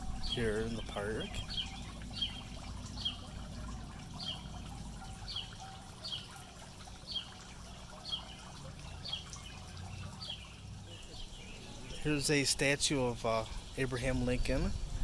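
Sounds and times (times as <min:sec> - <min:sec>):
bird chirping: 0:00.0 - 0:14.9
fountain water splashing: 0:00.0 - 0:15.0.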